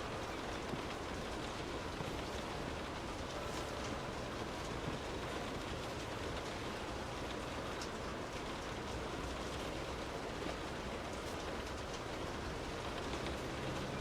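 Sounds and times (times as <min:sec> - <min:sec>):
rain falling on car: 0:00.0 - 0:14.0
raindrop ticks: 0:00.0 - 0:14.0.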